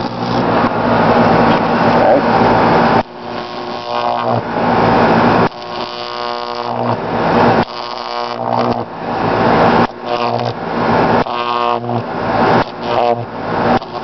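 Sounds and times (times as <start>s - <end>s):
electric arc buzzing: 0.0s - 14.0s.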